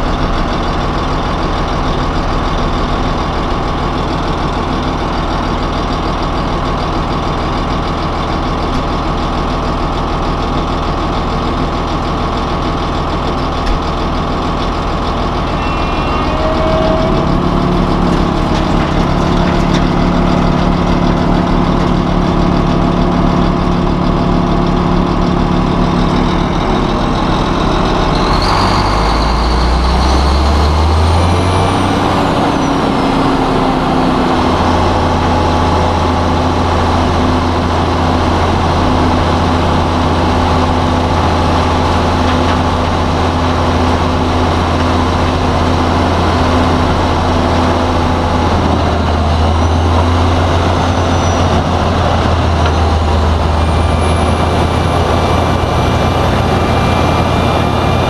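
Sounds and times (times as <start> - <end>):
wood chipper diesel engine running: 0.0 - 58.0
deep hum: 8.6 - 58.0.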